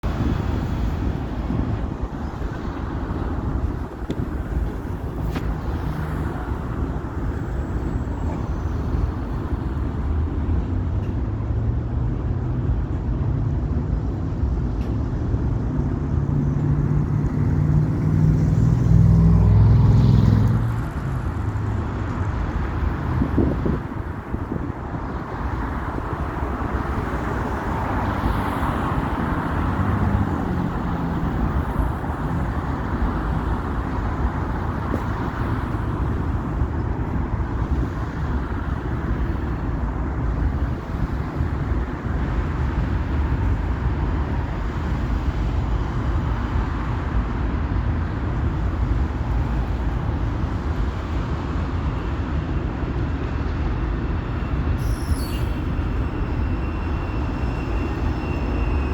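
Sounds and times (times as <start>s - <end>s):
train rumbling: 0.0s - 58.9s.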